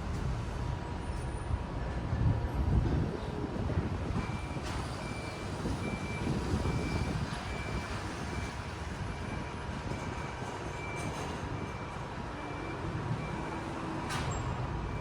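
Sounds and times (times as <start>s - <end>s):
elevator low rumble: 0.0s - 15.0s.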